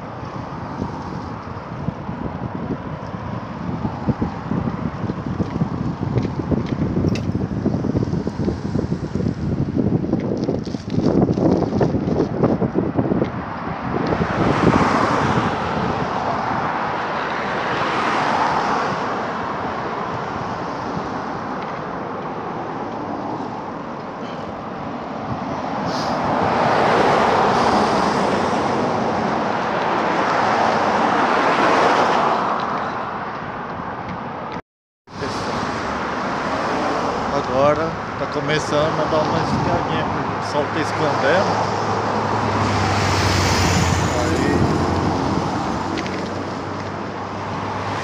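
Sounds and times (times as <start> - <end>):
wind buffeting microphone: 0.0 - 34.6, 35.2 - 48.0
cars passing: 0.0 - 48.0.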